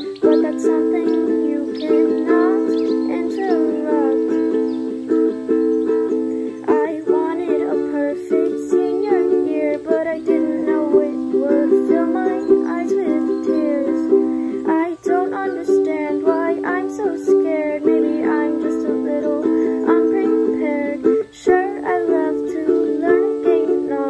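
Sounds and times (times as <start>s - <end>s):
ukulele strummed chords: 0.0s - 24.0s.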